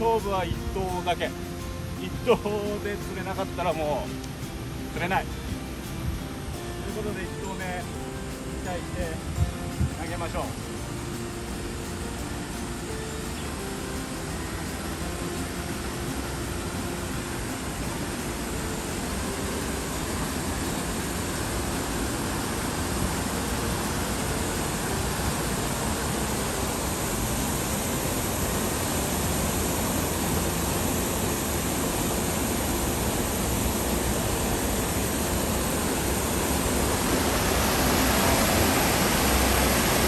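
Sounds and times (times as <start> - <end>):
flowing water rushing: 0.0 - 40.0.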